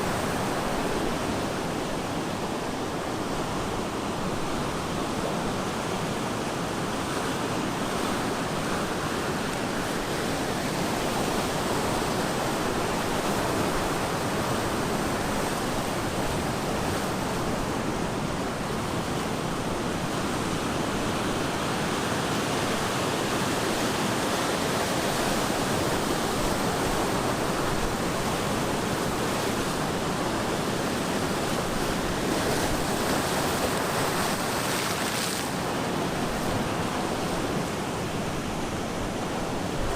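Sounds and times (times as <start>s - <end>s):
ocean surf breaking: 7.3s - 39.9s.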